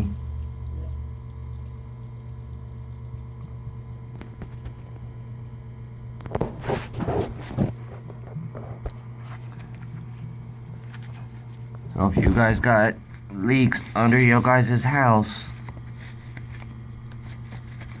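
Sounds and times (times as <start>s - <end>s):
pump motor humming: 0.0s - 18.0s.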